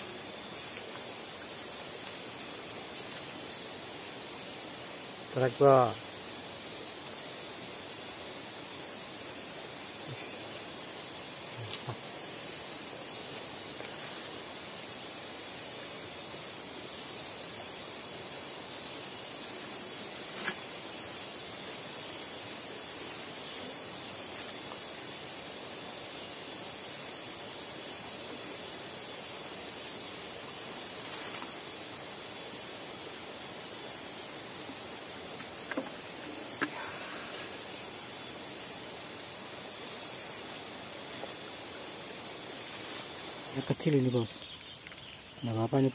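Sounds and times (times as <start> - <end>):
outdoor background hiss: 0.0 - 45.9.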